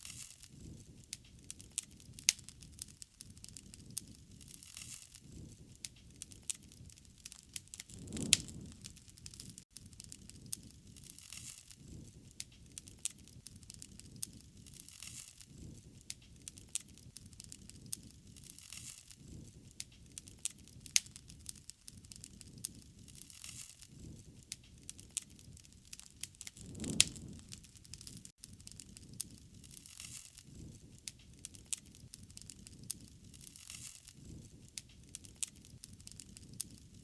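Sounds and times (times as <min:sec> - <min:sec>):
low rumble of burning: 0:00.0 - 0:37.0
wood fire crackling and popping: 0:00.0 - 0:37.0.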